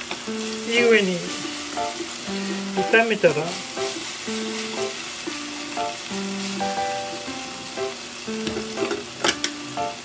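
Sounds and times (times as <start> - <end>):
meat sizzling in a frying pan: 0.0 - 10.0
background music: 0.3 - 10.0.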